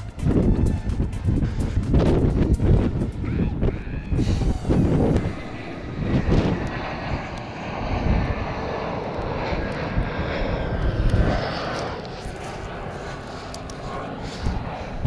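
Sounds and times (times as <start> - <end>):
faint high whine: 0.0 - 15.0
jet engine noise: 0.0 - 15.0
low rumble: 0.0 - 15.0.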